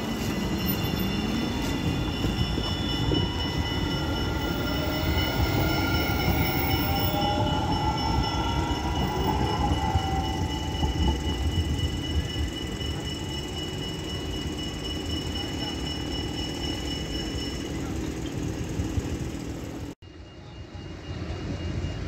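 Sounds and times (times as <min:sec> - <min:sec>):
tram motors whining: 0:00.0 - 0:22.0
wheels rumbling on rails: 0:00.0 - 0:22.0.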